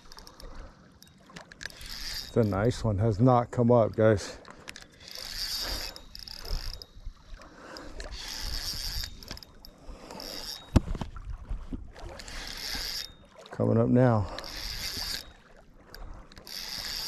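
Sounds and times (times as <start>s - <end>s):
fishing reel gears whirring: 0.0s - 11.0s, 11.9s - 13.4s, 14.1s - 17.0s.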